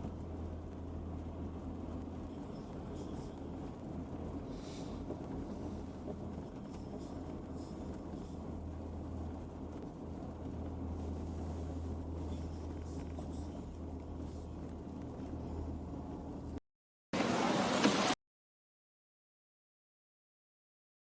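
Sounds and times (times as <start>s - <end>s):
vehicle engine and road noise: 0.0s - 16.6s, 17.2s - 18.2s.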